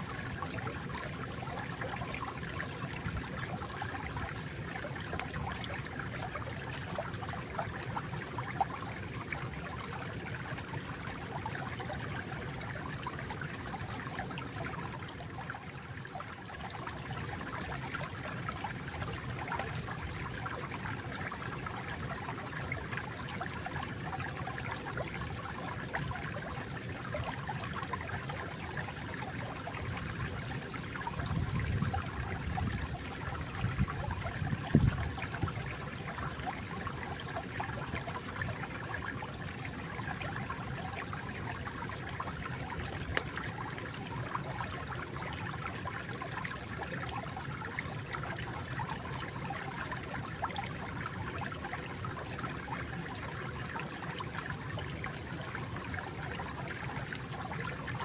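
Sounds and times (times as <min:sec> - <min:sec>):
stream trickling: 0:00.0 - 0:58.0.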